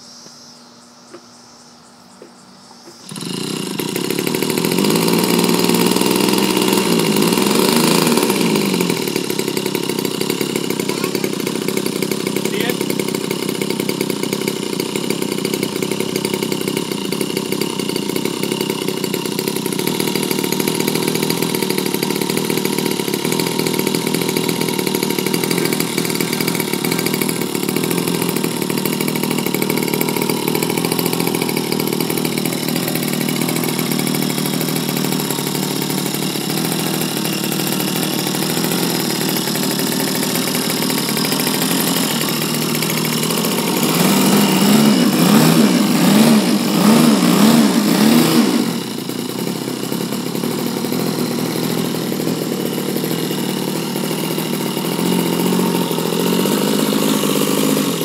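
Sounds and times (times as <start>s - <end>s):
model plane engine running: 2.9s - 58.0s.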